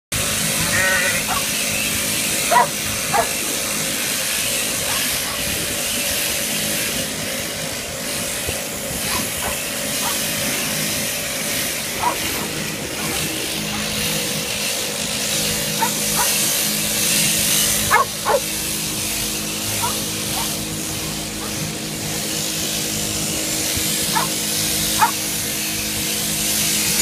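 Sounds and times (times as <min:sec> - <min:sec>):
electric shearing handpiece running: 0:00.1 - 0:27.0.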